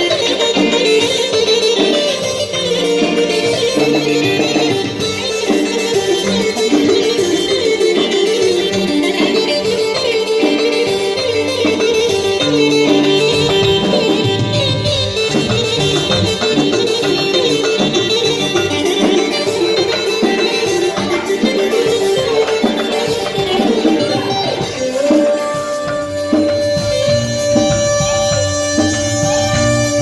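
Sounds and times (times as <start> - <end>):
live band playing folk dance music: 0.0 - 30.0.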